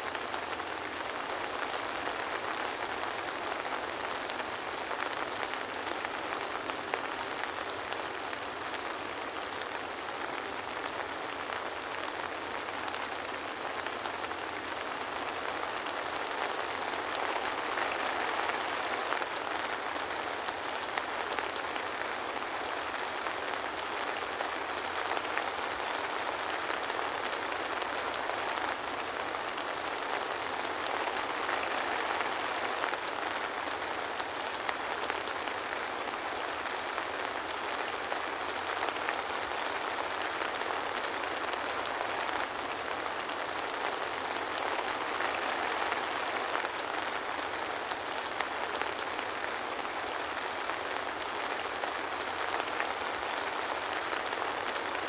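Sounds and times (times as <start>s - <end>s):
soft rain pattering: 0.0s - 55.0s.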